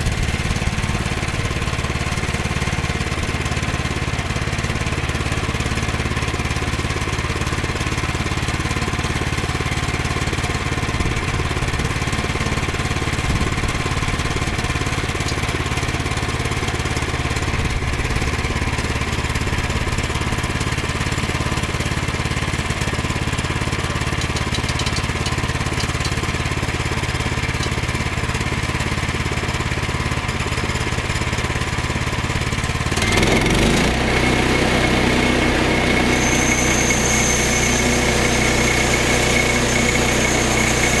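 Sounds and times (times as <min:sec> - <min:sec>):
small gasoline engine running: 0:00.0 - 0:41.0.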